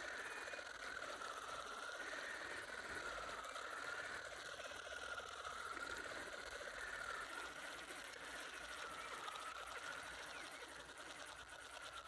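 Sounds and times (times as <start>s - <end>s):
fishing reel whirring and ticking: 0.0s - 12.0s.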